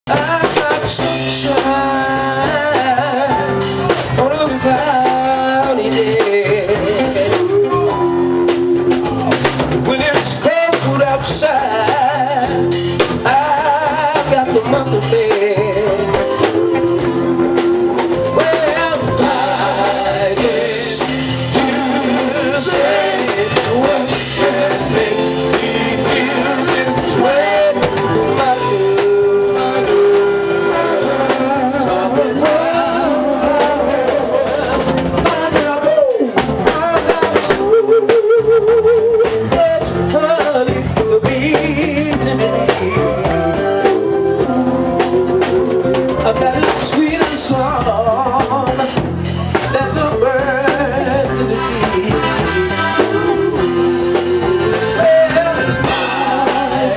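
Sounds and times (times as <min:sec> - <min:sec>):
drum kit and bass: 0:00.0 - 0:56.9
male lead vocal with vibrato: 0:00.1 - 0:56.9.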